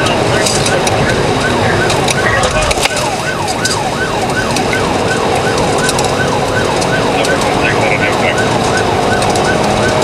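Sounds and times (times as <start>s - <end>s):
police siren yelping: 0.0s - 10.0s
road noise: 0.0s - 10.0s.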